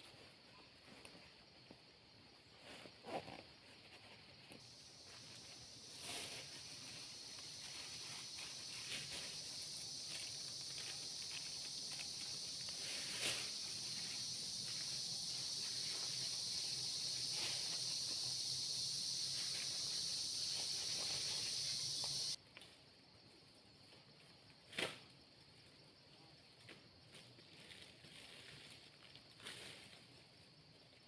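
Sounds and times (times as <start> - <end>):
insect chorus drone: 0.0 - 31.0.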